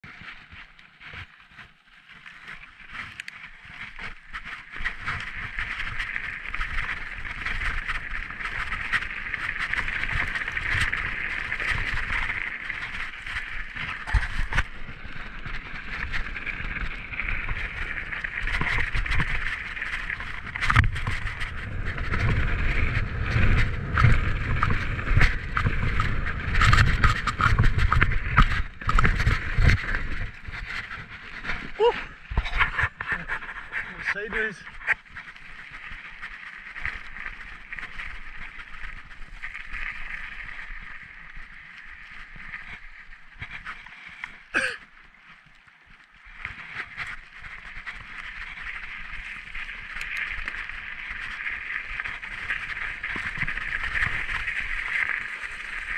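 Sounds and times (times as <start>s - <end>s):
bike tyres hissing on snow: 3.5s - 45.3s, 46.2s - 55.9s.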